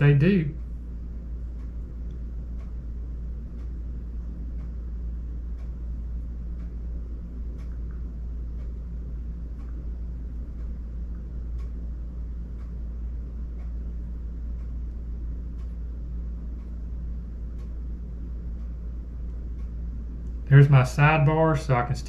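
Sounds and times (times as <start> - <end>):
faint hum: 0.0 - 22.0
low room rumble: 0.0 - 22.0
faint ticks: 0.6 - 20.4.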